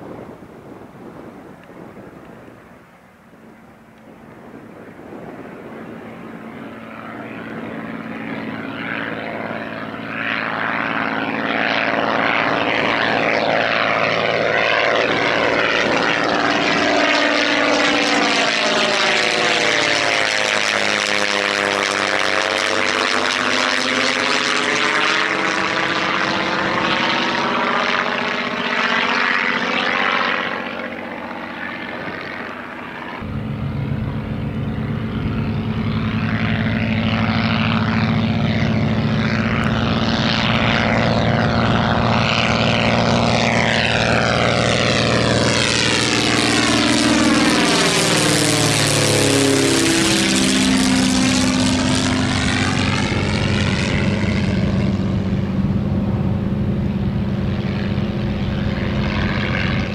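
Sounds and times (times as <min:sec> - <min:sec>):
propeller plane flyby: 0:00.0 - 0:59.9.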